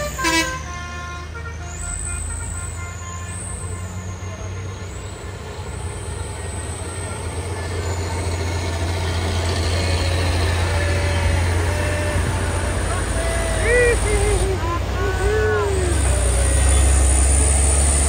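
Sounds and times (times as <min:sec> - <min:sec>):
truck diesel engines climbing: 0:00.0 - 0:18.0.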